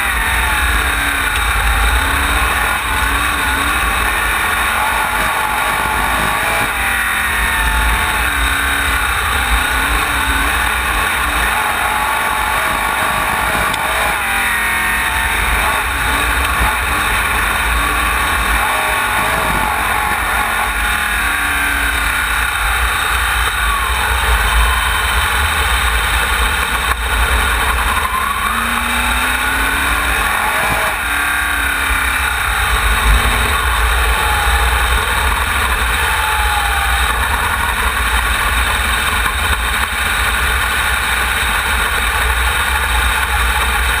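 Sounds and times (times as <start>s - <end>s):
race car engine at speed: 0.0s - 44.0s.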